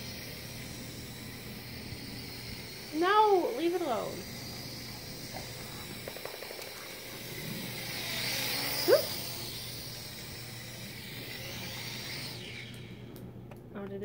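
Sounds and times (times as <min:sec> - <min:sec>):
toy quadcopter propellers whining: 0:00.0 - 0:13.6.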